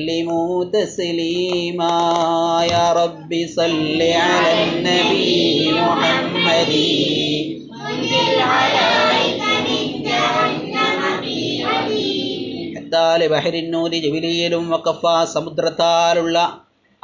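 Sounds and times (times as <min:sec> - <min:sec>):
person singing devotional verse: 0:00.0 - 0:16.6.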